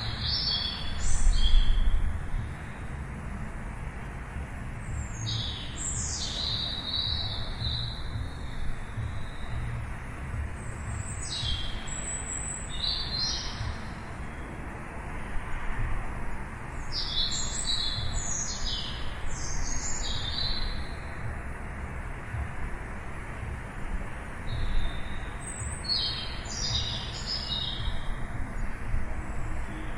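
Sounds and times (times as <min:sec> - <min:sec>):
low background noise: 0:00.0 - 0:29.9
songbirds chirping: 0:00.0 - 0:29.9.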